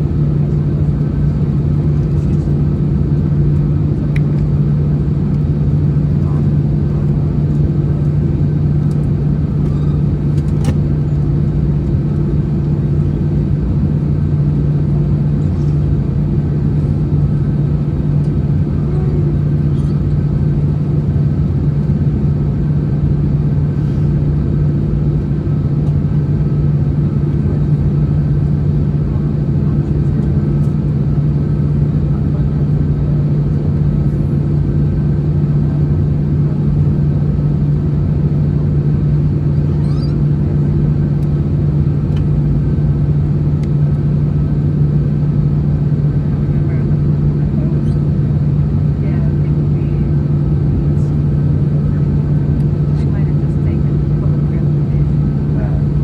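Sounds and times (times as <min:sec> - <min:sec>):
aircraft cabin hum: 0:00.0 - 0:56.0.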